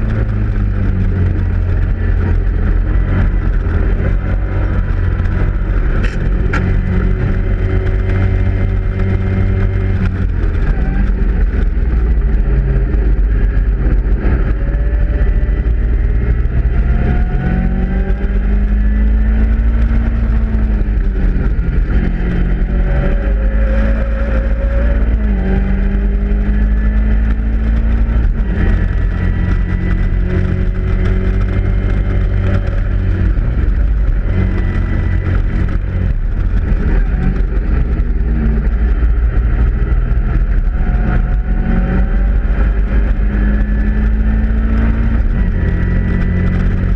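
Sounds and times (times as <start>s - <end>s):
race car engine revving: 0.0s - 46.9s
wind rumble on microphone: 0.0s - 46.9s.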